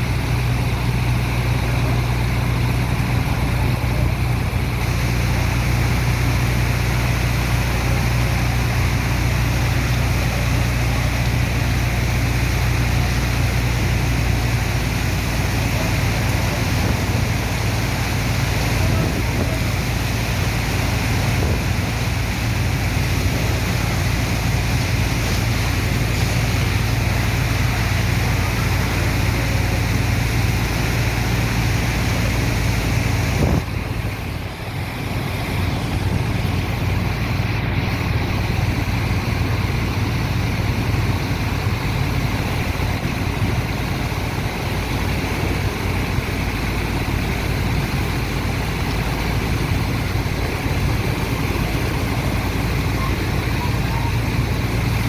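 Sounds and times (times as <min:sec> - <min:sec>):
constant rushing noise: 0:00.0 - 0:55.0
heavy pump engine humming: 0:00.0 - 0:55.0.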